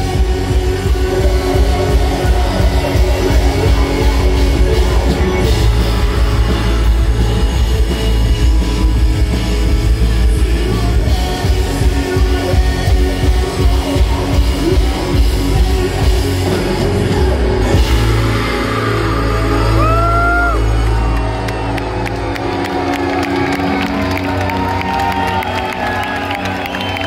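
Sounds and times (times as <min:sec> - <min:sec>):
bass guitar: 0:00.0 - 0:27.0
drums: 0:00.0 - 0:27.0
electric guitar: 0:00.0 - 0:27.0.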